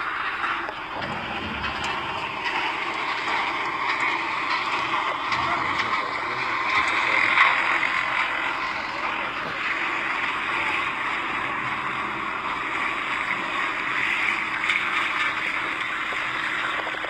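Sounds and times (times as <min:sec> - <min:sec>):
spraying machine drone and hiss: 0:00.0 - 0:17.0.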